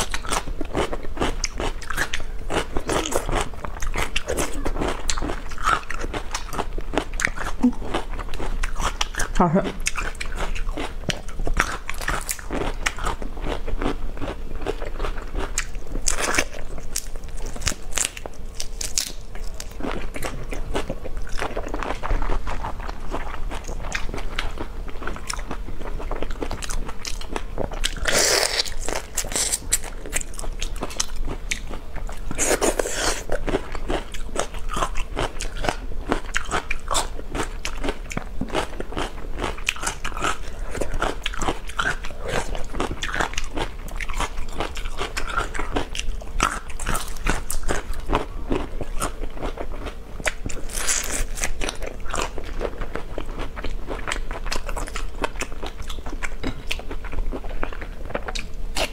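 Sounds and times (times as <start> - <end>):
wet chewing with crackly clicks: 0.0 - 58.9.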